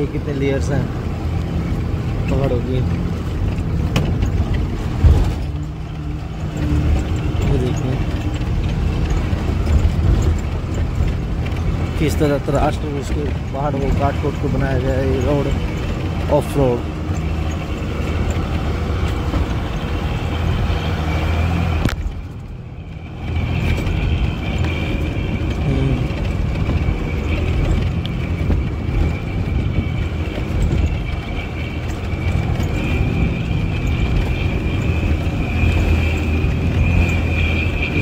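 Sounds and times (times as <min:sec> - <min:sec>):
bus engine droning: 0:00.0 - 0:38.0.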